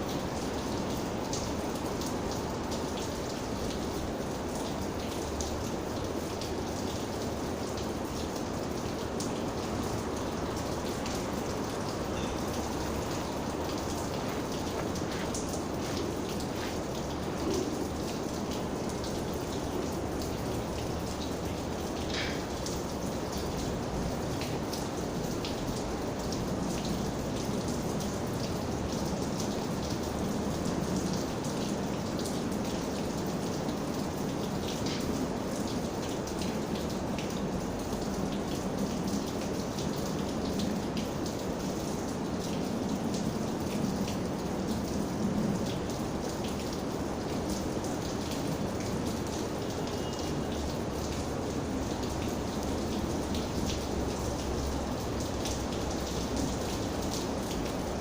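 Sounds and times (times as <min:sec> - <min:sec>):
raindrops tapping on a surface: 0:00.0 - 0:58.0
steady rain falling: 0:00.0 - 0:58.0.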